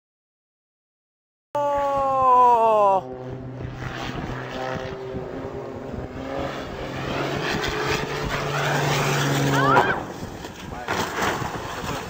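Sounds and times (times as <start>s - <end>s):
propeller engine droning: 1.6s - 12.0s.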